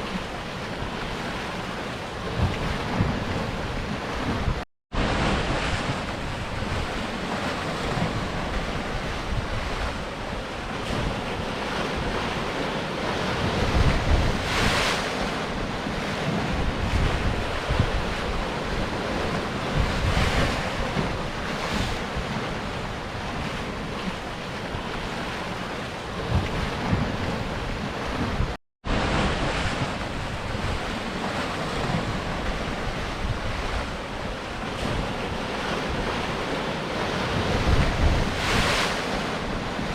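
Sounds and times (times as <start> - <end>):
surf washing against rocks: 0.0 - 39.9
waves crashing: 0.0 - 39.9
wind buffeting microphone: 0.0 - 39.9.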